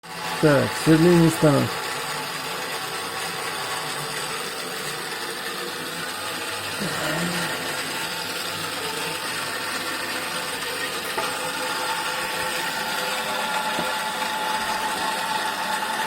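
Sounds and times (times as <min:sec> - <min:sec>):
electric drill motor whining: 0:00.0 - 0:16.0.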